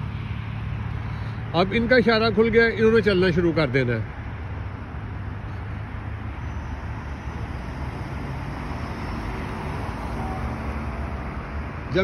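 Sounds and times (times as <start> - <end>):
cars pulling away: 0.0 - 12.0.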